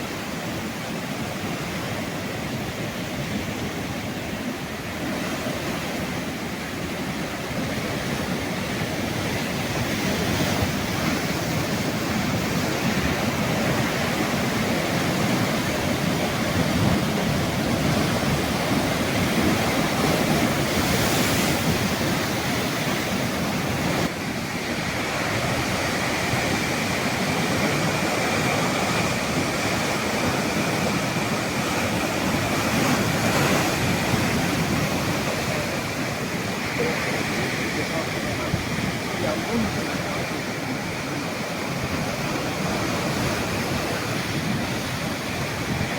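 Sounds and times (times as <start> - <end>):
sea waves washing onto shore: 0.0 - 45.9.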